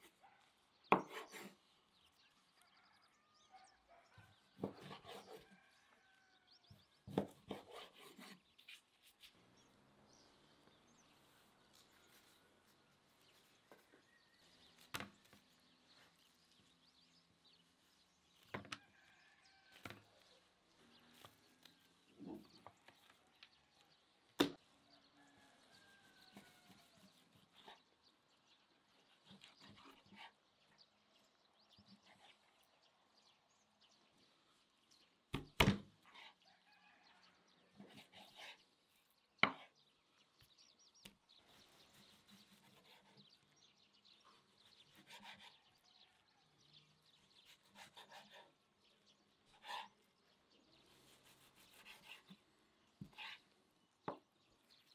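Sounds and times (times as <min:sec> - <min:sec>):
faint bird chirps: 0:00.0 - 0:54.9.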